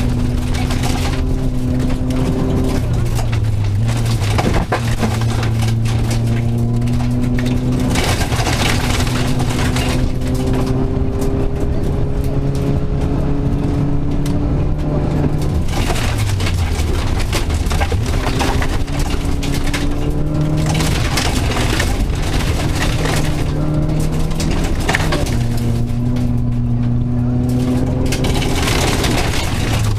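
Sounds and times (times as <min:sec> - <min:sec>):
car engine revving under load: 0:00.0 - 0:29.9
gravel rattling against car: 0:00.0 - 0:29.9.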